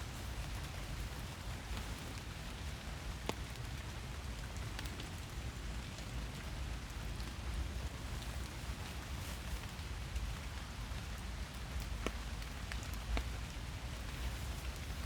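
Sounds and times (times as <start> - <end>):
raindrops pattering: 0.0 - 15.0
steady rain hiss: 0.0 - 15.0.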